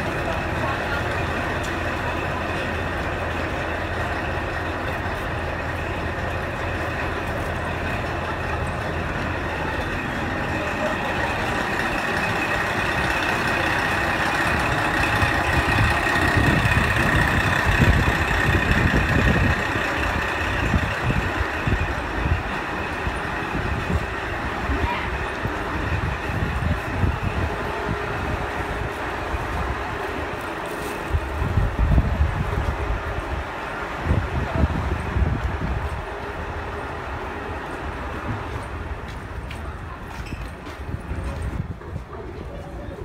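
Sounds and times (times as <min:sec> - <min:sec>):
train engine idling hum: 0:00.0 - 0:43.0.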